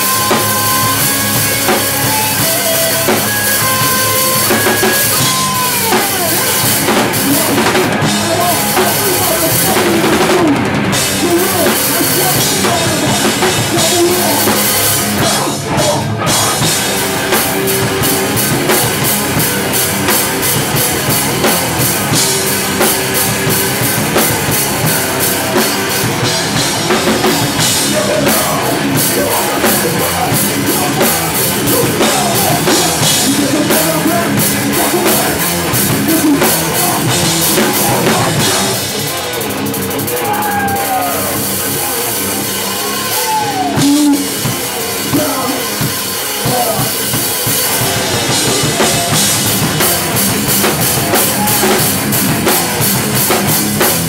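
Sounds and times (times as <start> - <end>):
distorted electric guitars: 0.0 - 54.0
drum kit: 0.0 - 54.0.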